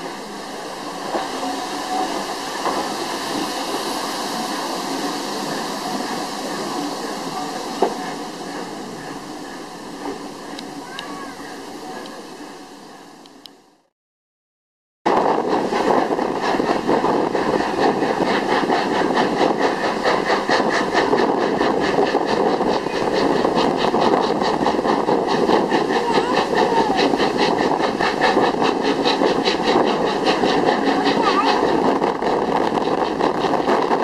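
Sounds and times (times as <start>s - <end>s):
steam train running: 0.0s - 13.9s, 15.1s - 34.0s.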